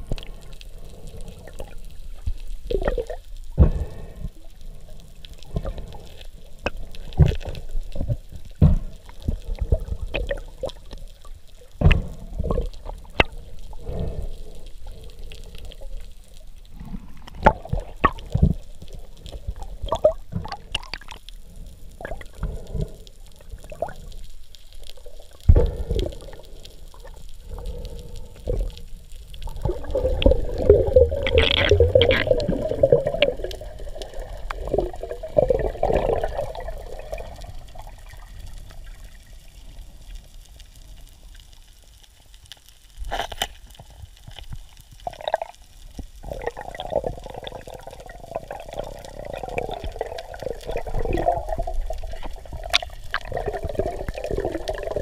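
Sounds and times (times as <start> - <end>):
underwater sloshing and bubbling: 0.0 - 55.0.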